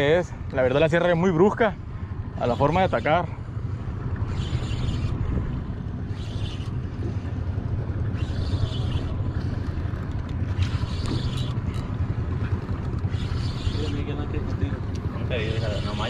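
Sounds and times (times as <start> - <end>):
boat motor running: 0.0 - 16.0.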